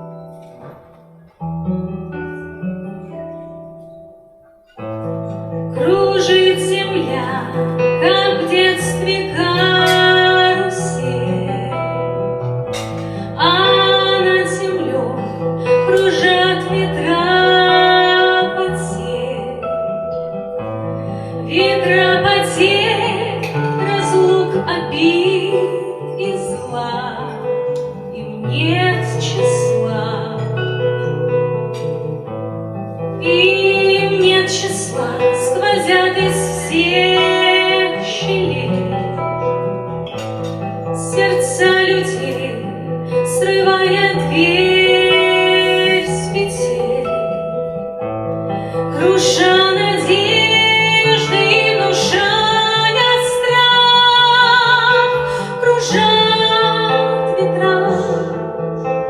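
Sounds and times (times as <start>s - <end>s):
acoustic guitar: 0.0s - 59.0s
woman singing slow song: 5.3s - 12.0s, 12.7s - 19.8s, 21.4s - 32.4s, 33.1s - 39.7s, 40.5s - 47.6s, 48.7s - 58.9s.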